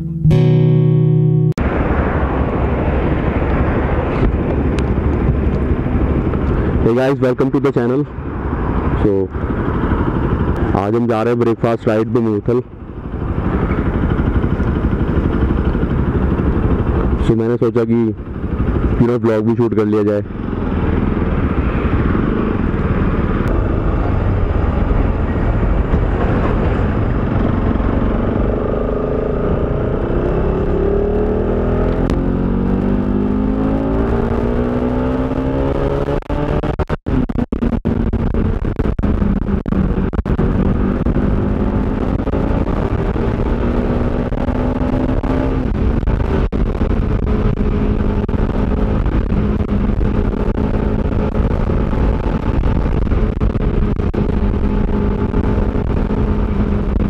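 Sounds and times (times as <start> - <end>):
motorcycle engine accelerating: 0.0 - 7.1, 8.1 - 12.0, 12.6 - 19.4, 20.0 - 57.0
wind rush on microphone: 1.6 - 19.1, 20.2 - 57.0.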